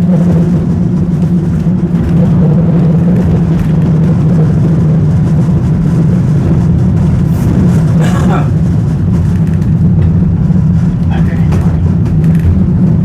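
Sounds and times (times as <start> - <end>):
tram rumbling along track: 0.0 - 13.0.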